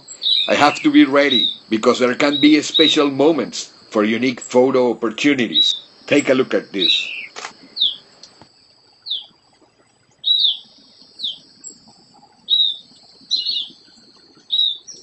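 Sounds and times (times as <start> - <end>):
birds chirping: 0.0 - 15.0
faint high hiss: 0.0 - 15.0.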